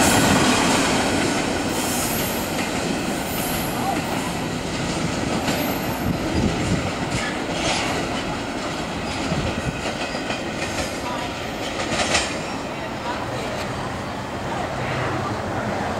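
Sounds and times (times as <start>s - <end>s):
freight train wheels rumbling: 0.0s - 15.9s.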